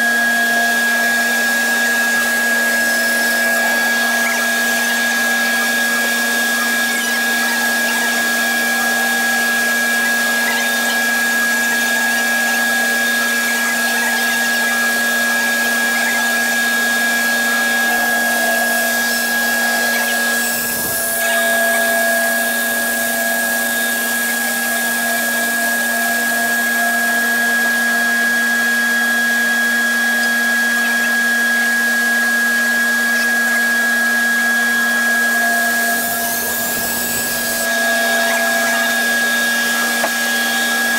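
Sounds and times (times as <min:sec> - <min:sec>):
bandsaw cutting wood: 0:00.0 - 0:40.9
dust collector hum: 0:00.0 - 0:40.9.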